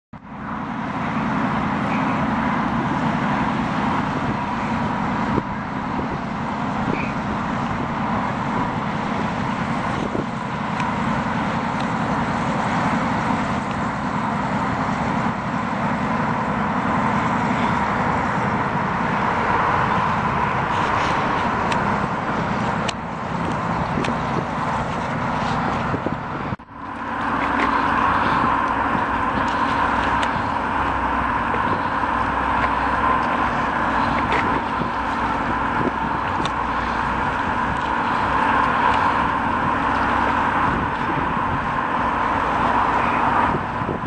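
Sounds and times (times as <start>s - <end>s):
diesel engines droning: 0.2s - 44.0s.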